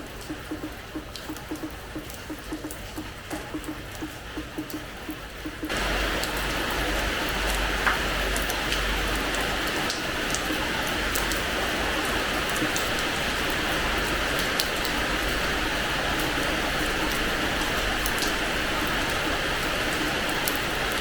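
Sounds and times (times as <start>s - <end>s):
rain hissing on a terrace floor: 0.0s - 21.0s
raindrops ticking: 0.0s - 21.0s.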